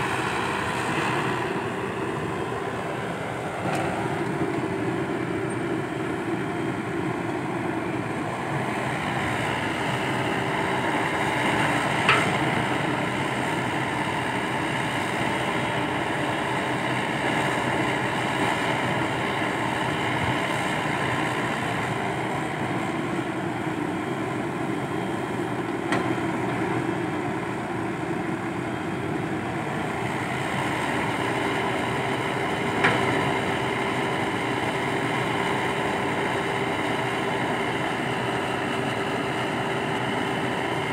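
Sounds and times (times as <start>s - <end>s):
excavator engine and hydraulics: 0.0s - 40.9s.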